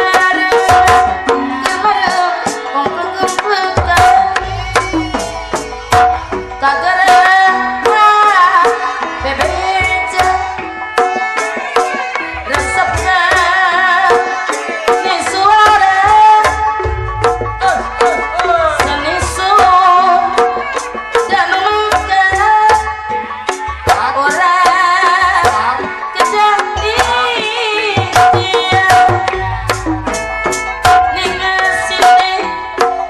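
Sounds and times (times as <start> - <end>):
hand drums fast rhythm: 0.0 - 33.0.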